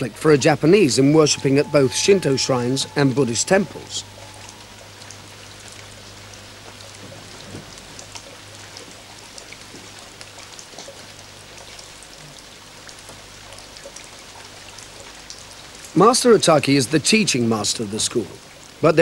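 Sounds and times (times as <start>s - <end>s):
light rain pattering: 0.0s - 19.0s
low steady hum: 0.0s - 19.0s.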